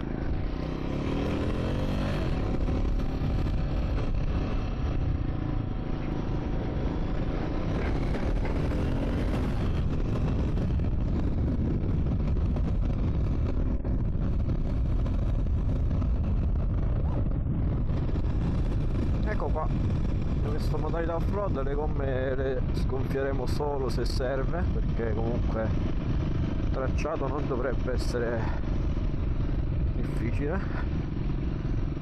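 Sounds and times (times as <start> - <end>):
motorcycle engine running: 0.0 - 32.0
wind noise: 0.0 - 32.0.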